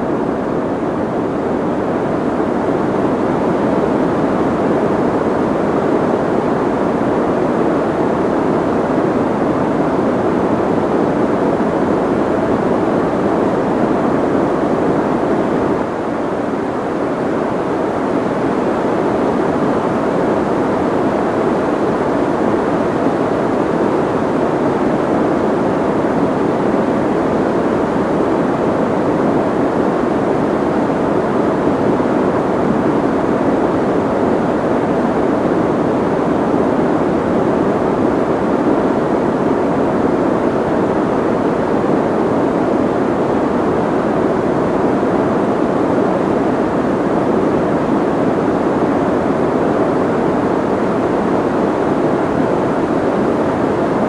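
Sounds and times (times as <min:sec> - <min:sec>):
soft white noise: 0:00.0 - 0:54.0.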